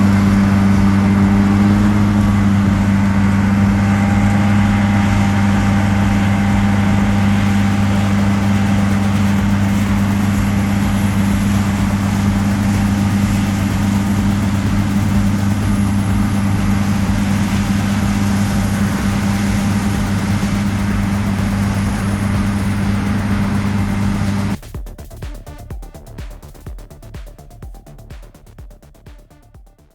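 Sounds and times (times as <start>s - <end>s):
diesel farm machinery running: 0.0s - 24.6s.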